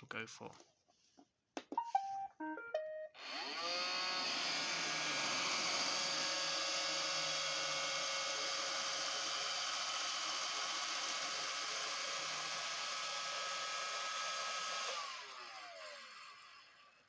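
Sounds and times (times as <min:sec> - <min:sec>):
robot vacuum motor whine: 0:03.2 - 0:17.0.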